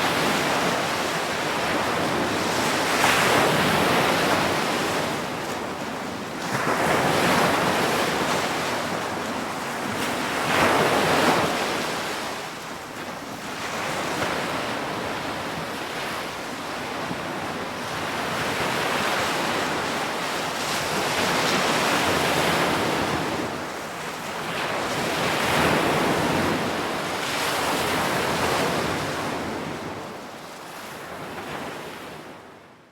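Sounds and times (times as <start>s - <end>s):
ocean waves breaking on shore: 0.0s - 32.7s.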